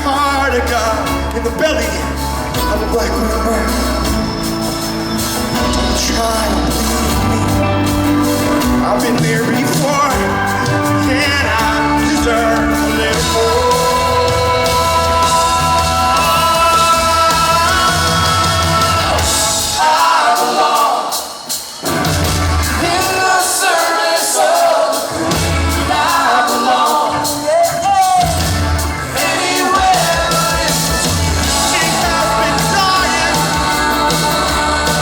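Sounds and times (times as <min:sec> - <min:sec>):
live rock band playing: 0:00.0 - 0:35.0
person singing: 0:05.6 - 0:21.4, 0:22.7 - 0:35.0.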